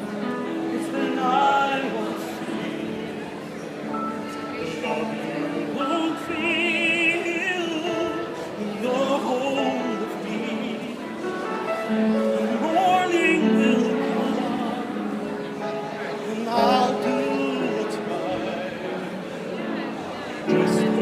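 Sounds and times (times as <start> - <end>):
man singing operatically: 0.0 - 3.2, 4.6 - 11.5, 12.2 - 19.1, 20.4 - 21.0.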